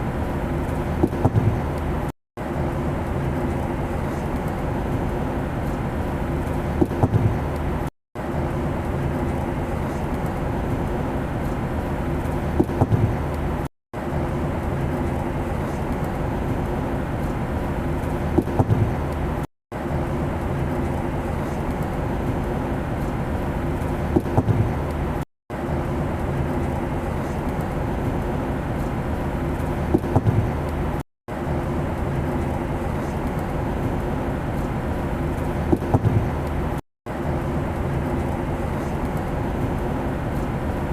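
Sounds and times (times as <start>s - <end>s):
airplane engine drone: 0.0s - 40.9s.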